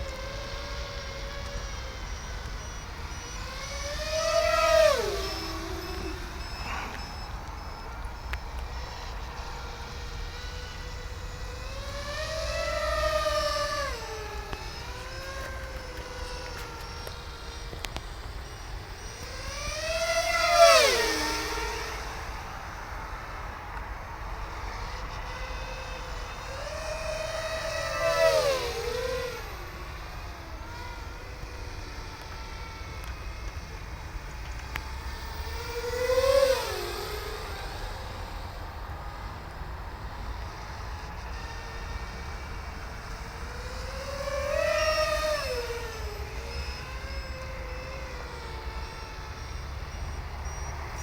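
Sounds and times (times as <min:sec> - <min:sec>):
drone motor whine passing: 0:00.0 - 0:51.0.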